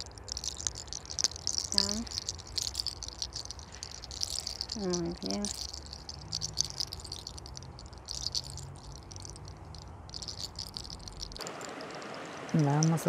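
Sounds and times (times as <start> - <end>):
fingers rubbing through hair: 0.0 - 13.0
low steady hum: 0.0 - 13.0.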